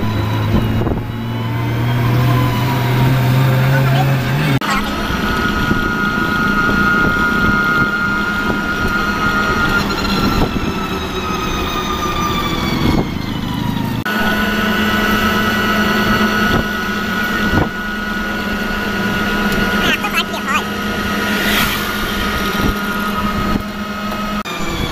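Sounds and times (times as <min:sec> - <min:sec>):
rickshaw motor whine: 0:00.0 - 0:19.8, 0:20.7 - 0:24.9
road rumble: 0:00.0 - 0:24.9.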